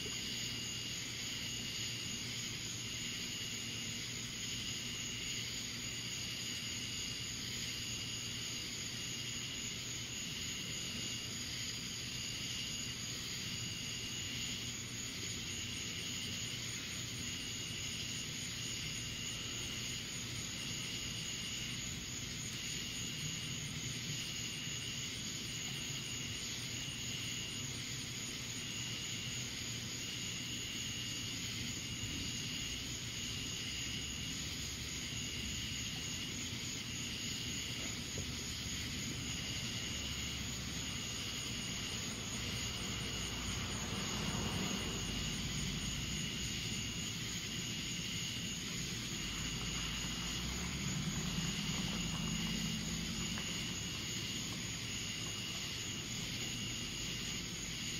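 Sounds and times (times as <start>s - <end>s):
high-pitched insect droning: 0.0s - 57.9s
pulsing high insect call: 0.0s - 57.9s
steady hiss: 0.0s - 57.9s.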